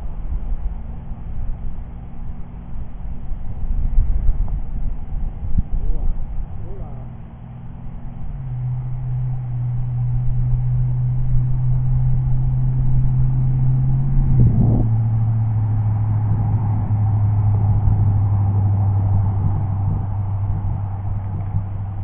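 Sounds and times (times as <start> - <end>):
golf cart humming: 0.0 - 22.0.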